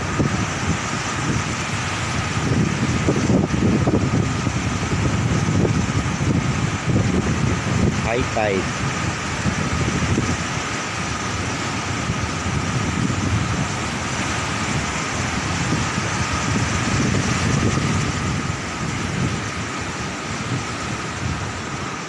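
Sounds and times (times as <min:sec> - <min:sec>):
waves breaking against seawall: 0:00.0 - 0:22.0.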